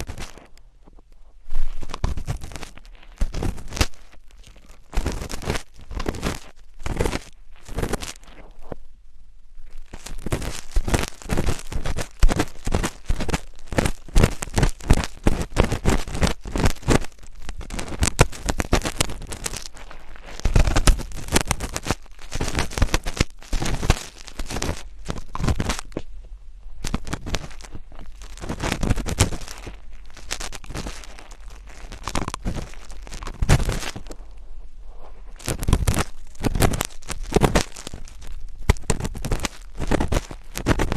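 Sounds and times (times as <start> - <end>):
close scratching and crackling: 0.0 - 40.9.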